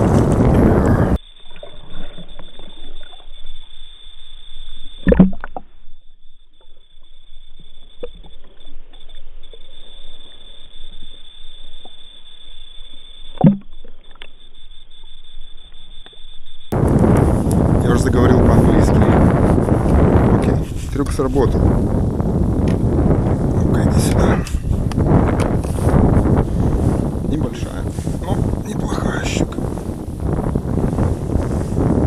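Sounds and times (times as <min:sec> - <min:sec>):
faint underwater crackling: 0:00.0 - 0:31.8
steady high whine: 0:00.0 - 0:32.0.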